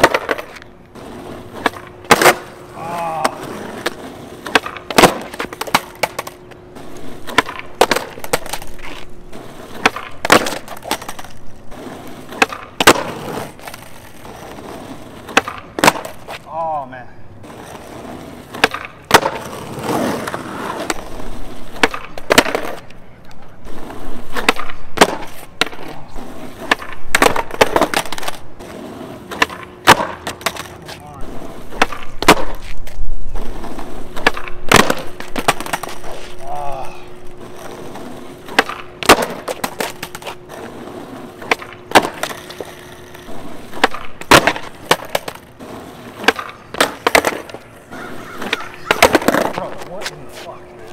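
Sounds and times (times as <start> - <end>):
skateboard landing on pavement: 0.0 - 16.4, 17.4 - 23.0, 23.7 - 36.6, 37.3 - 50.9
skateboard pops and clacks: 0.0 - 16.4, 18.4 - 23.0, 24.3 - 31.0, 31.7 - 33.0, 33.6 - 36.5, 37.4 - 47.7, 48.4 - 50.9
skateboard wheels rolling: 0.0 - 50.9.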